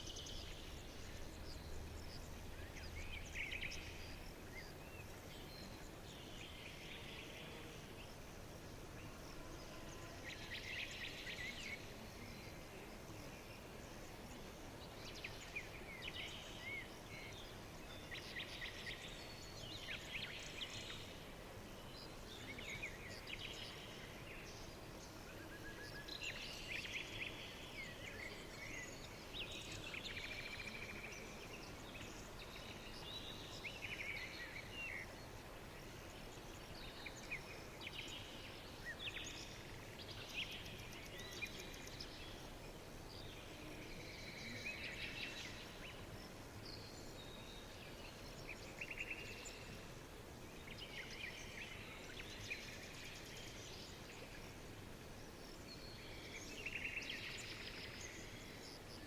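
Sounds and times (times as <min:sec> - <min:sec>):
songbirds chirping and trilling: 0:00.0 - 0:59.0
steady background hiss: 0:00.0 - 0:59.0.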